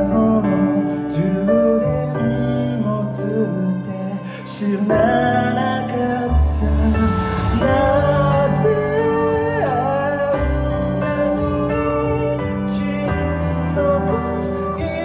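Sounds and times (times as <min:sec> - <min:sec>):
instrumental accompaniment with bass: 0:00.0 - 0:15.0
man singing into a microphone: 0:00.0 - 0:15.0.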